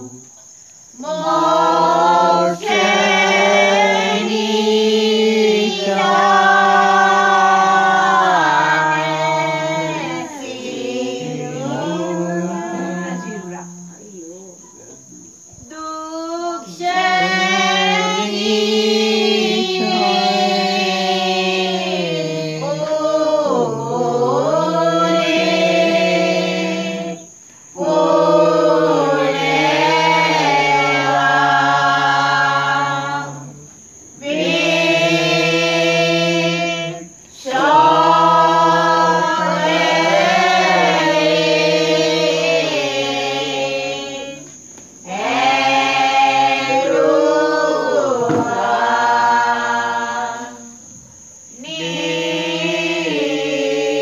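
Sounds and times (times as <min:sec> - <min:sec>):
group singing a hymn unaccompanied: 0:00.0 - 0:14.2, 0:14.8 - 0:54.0.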